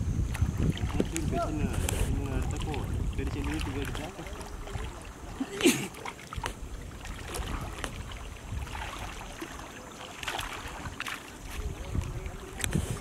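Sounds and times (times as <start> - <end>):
wind buffeting microphone: 0.0 - 5.4, 6.2 - 9.6, 10.4 - 13.0
water sloshing: 0.0 - 13.0.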